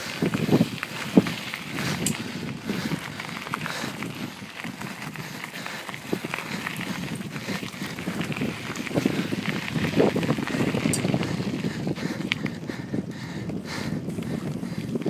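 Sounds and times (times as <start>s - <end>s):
bike rattling: 0.0s - 15.0s
rolling and wind hiss: 0.0s - 15.0s
tyres crunching over gravel: 0.1s - 12.4s.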